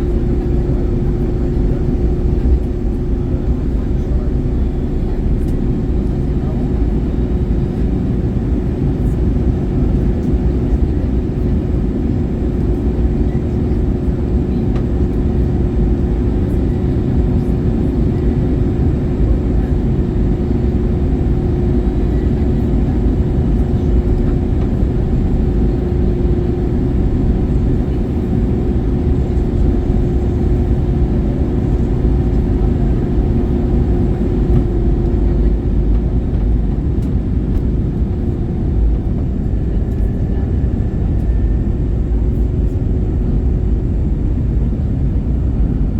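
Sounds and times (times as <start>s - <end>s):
steady cabin hum: 0.0s - 45.8s
aircraft engines rumbling: 0.0s - 45.9s.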